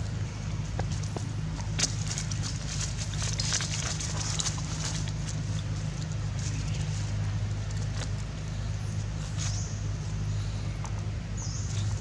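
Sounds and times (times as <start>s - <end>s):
steady low hum: 0.0s - 12.0s
dry leaves crackling and rustling: 0.8s - 10.7s.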